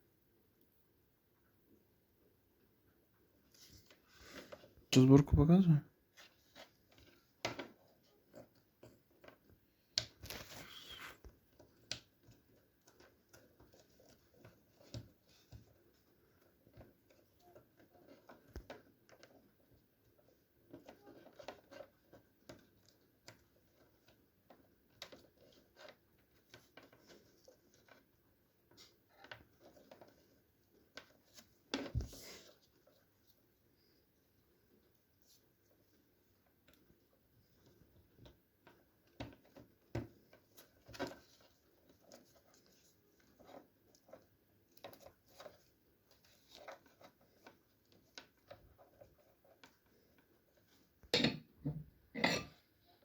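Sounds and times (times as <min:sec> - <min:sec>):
rustling: 0:03.2 - 0:05.0, 0:06.0 - 0:51.1.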